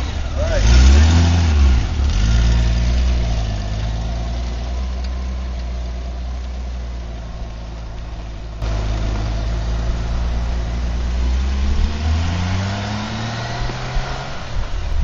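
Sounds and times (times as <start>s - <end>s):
motorcycle engine pulling away: 0.0s - 15.0s.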